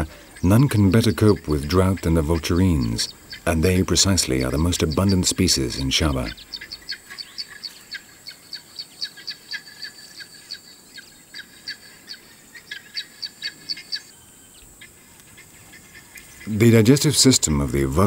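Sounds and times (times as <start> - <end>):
guineafowl chirping: 0.0 - 18.0.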